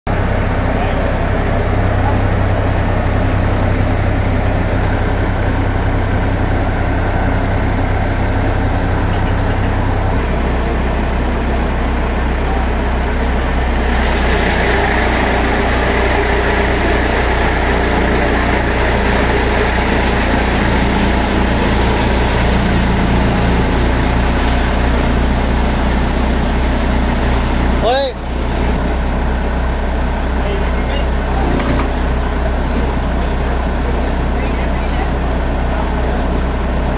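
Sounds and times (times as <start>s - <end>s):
diesel engine hum: 0.0s - 36.9s.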